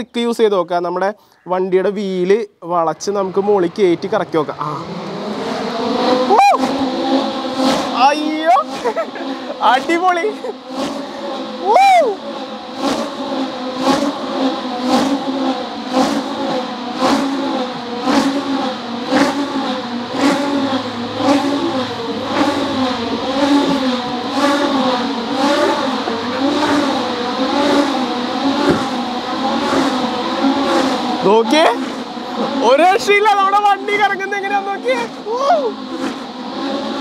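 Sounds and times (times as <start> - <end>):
electric toy car motor whine: 3.4 - 37.0.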